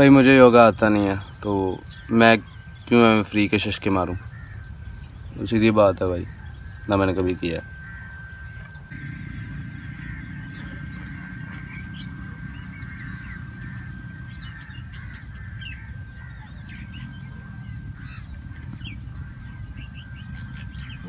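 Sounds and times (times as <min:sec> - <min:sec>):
birds chirping: 0:00.0 - 0:21.0
steady low rumble: 0:00.0 - 0:21.0
thin steady whistle: 0:01.2 - 0:21.0.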